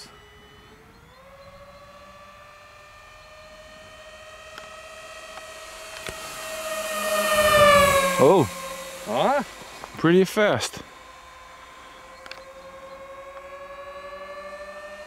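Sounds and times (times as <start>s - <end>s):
electric motors and propellers whining: 0.0s - 15.0s.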